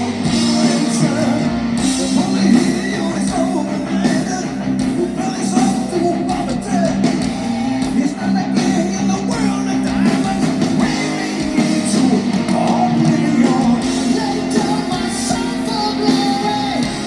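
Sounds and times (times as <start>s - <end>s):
bass: 0.0s - 17.0s
distorted electric guitars: 0.0s - 17.0s
drums with cymbals: 0.0s - 17.0s.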